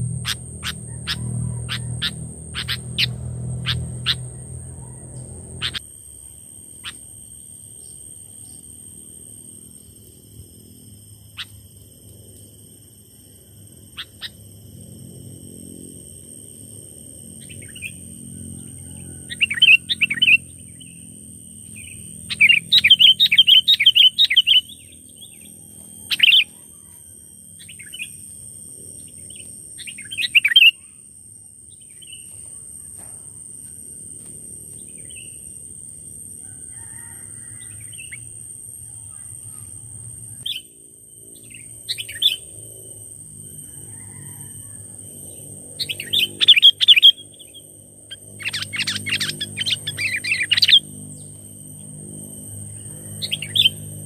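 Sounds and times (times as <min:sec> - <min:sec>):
steady high-pitched whine: 0:00.0 - 0:54.0.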